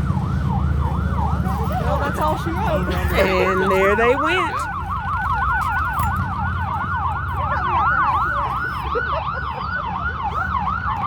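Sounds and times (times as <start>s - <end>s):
low rumble of traffic: 0.0s - 11.0s
sirens yelping: 0.0s - 11.0s.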